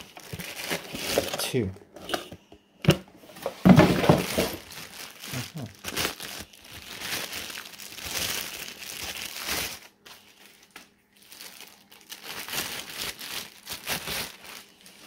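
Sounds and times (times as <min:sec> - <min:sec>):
plastic bags crinkling: 0:00.0 - 0:01.7, 0:03.3 - 0:15.0.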